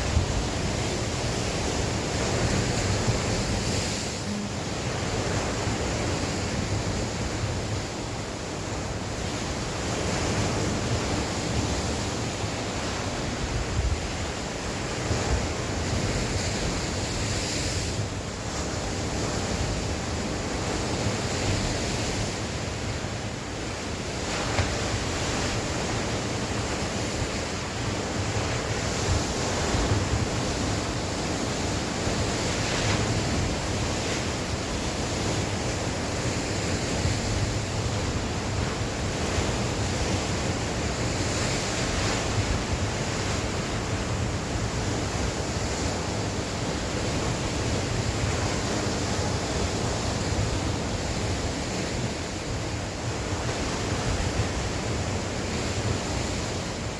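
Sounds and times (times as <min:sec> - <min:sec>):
sea waves breaking: 0:00.0 - 0:56.9
wind on microphone: 0:00.0 - 0:56.9.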